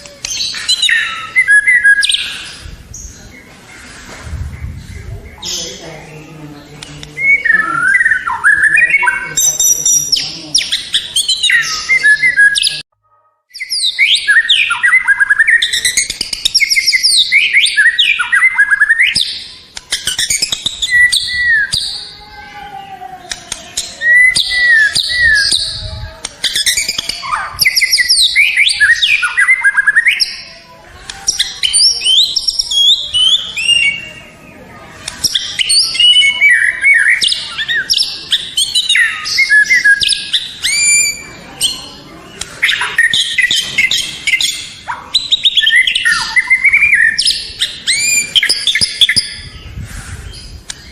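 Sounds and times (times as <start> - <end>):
songbird singing varied song: 0.0 - 12.8, 13.5 - 22.3, 23.2 - 50.9.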